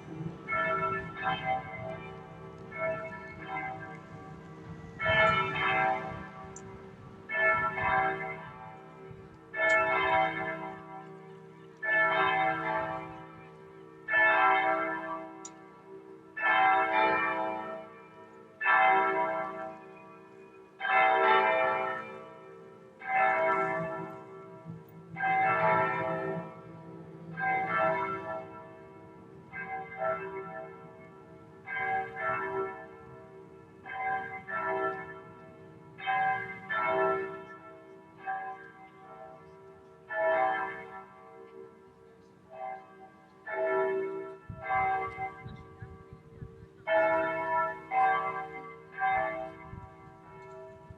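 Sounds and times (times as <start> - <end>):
large church bells ringing: 0.0 - 50.9.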